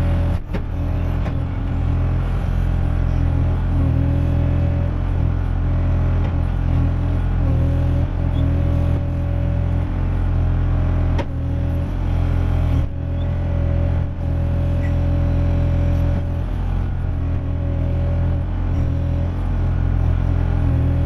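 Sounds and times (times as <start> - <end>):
excavator diesel engine running: 0.0 - 21.0
hydraulic whine: 0.0 - 21.0.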